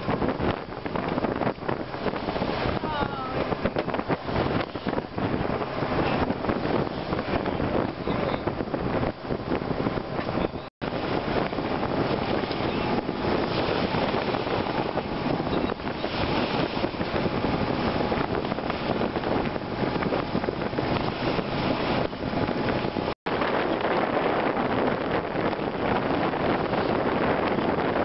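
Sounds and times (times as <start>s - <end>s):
water rushing along hull: 0.0s - 28.0s
wind buffeting microphone: 0.0s - 28.0s.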